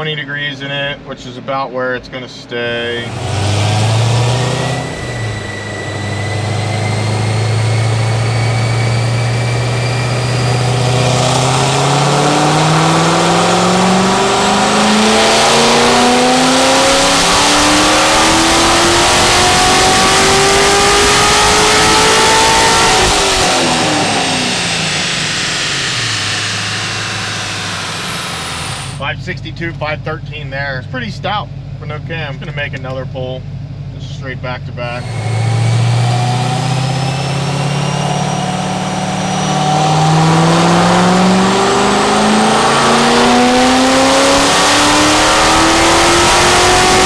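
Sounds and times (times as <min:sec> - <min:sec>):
car engine revving on dyno: 0:02.7 - 0:29.1, 0:34.8 - 0:47.0.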